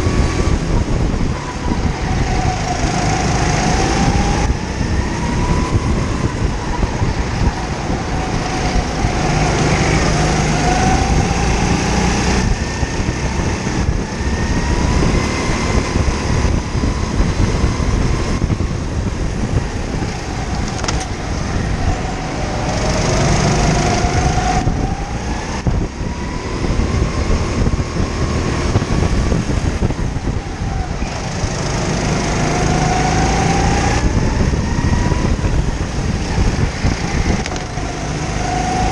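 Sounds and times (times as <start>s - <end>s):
go-kart engine revving: 0.0s - 38.9s
kart rumbling on track: 0.0s - 38.9s.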